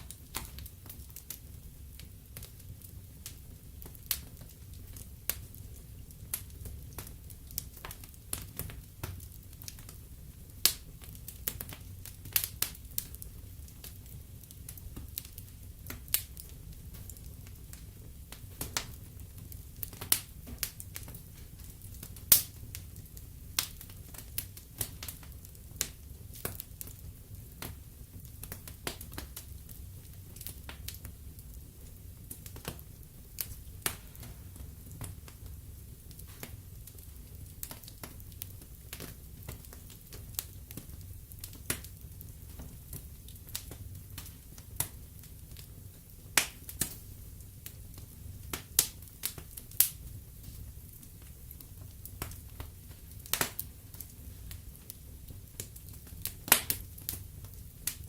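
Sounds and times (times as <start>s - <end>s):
sharp pops of fire: 0.0s - 31.5s, 32.3s - 58.0s
wood fire crackling: 0.0s - 58.0s.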